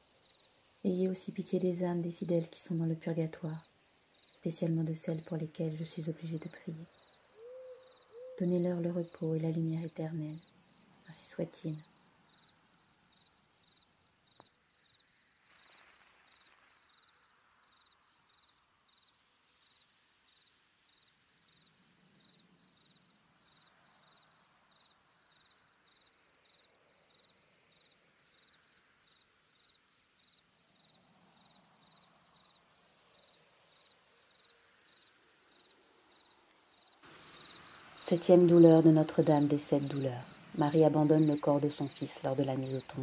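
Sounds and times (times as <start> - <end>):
faint cricket chirping: 0.0 - 43.0.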